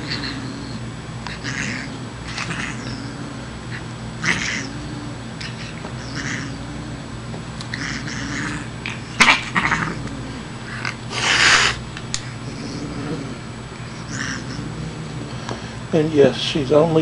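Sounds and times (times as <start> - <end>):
cat hissing: 0.0 - 7.0, 7.7 - 15.9
cat growl-yowling: 0.0 - 7.1, 7.7 - 15.4.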